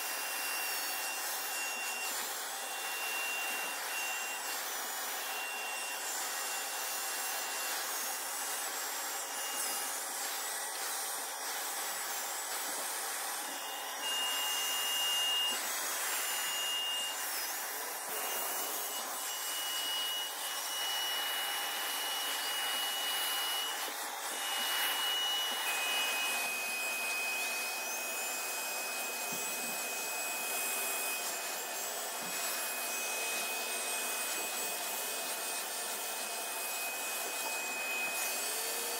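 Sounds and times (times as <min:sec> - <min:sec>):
carpet cleaner suction motor: 0:00.0 - 0:38.9.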